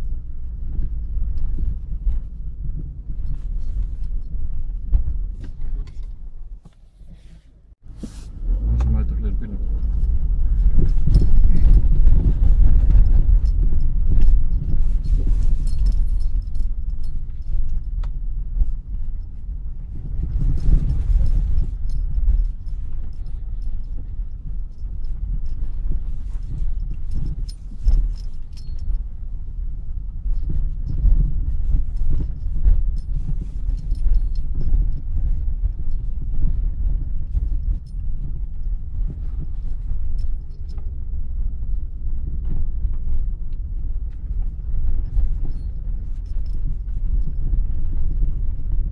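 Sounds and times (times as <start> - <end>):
engine and tyres rumbling: 0.0 - 48.9
clicks and rattles over bumps: 8.7 - 48.9.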